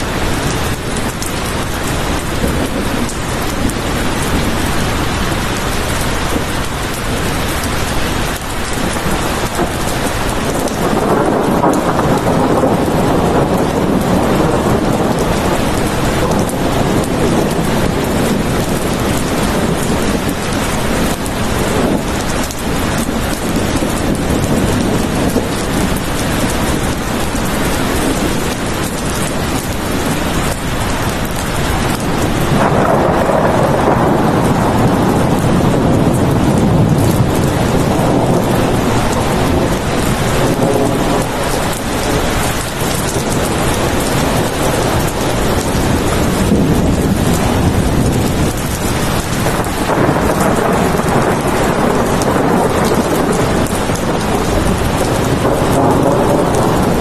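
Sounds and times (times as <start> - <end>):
heavy rain: 0.0 - 57.0
rolling thunder: 0.0 - 57.0.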